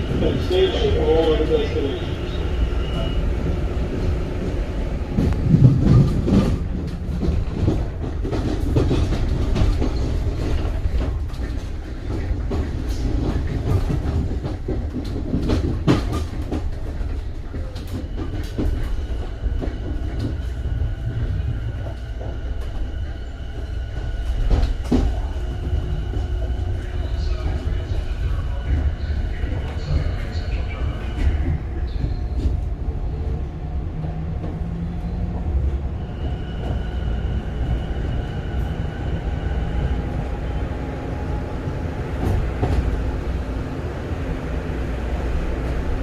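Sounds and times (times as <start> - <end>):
train low rumble: 0.0 - 46.0.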